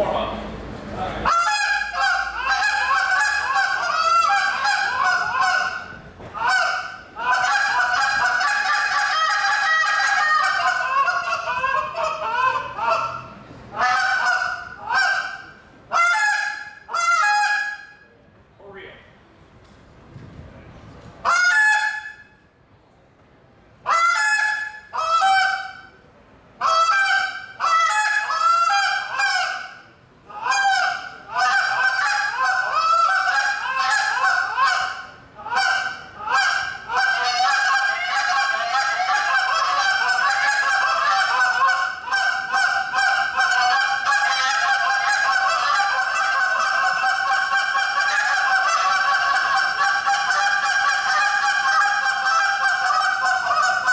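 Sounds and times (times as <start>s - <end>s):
goose call honks: 1.2s - 17.9s, 21.2s - 22.2s, 23.9s - 25.9s, 26.6s - 53.9s.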